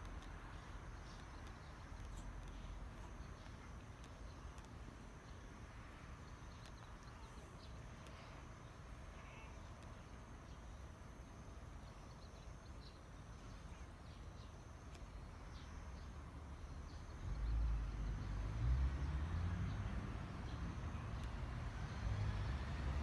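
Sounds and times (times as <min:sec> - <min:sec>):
small ticks: 0:00.0 - 0:18.3, 0:19.1 - 0:23.0
low vehicle engine rumble: 0:00.0 - 0:23.0.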